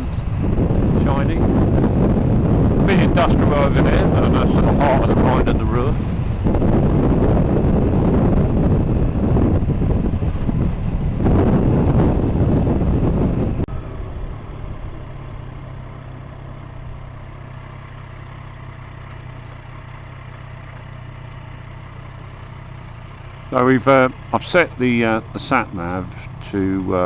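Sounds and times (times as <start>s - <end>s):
low engine hum: 0.0s - 27.0s
wind and road rush: 0.0s - 27.0s.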